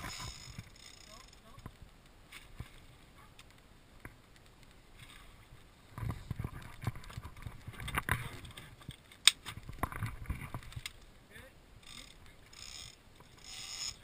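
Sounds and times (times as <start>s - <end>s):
wind and water hiss: 0.0s - 14.0s.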